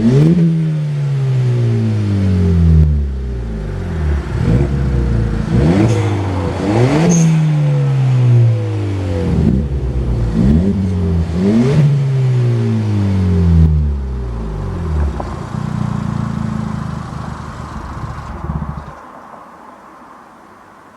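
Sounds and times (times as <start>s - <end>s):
car engine revving in blips: 0.0s - 19.0s.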